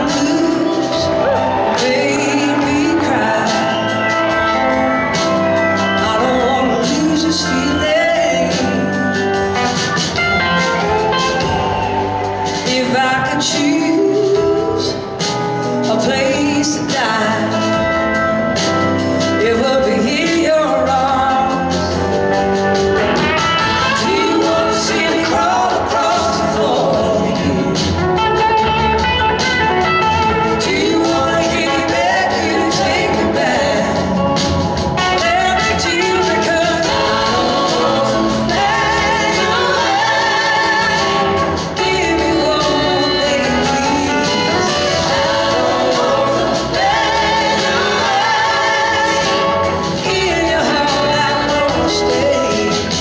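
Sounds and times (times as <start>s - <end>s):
blues-rock band playing: 0.0s - 53.0s.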